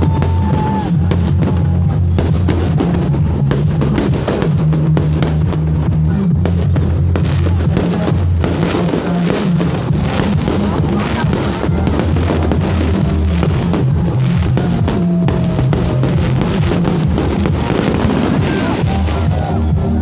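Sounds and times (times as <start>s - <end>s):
loud music with heavy bass: 0.0s - 20.0s.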